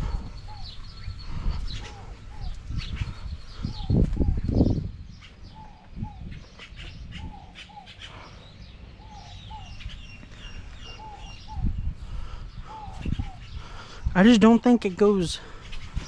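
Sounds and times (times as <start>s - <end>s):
higher bird chirps: 0.0s - 16.0s.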